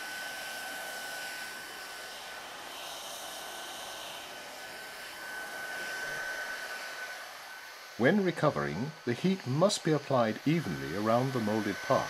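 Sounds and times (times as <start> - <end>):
heat gun blowing hot air: 0.0 - 12.0.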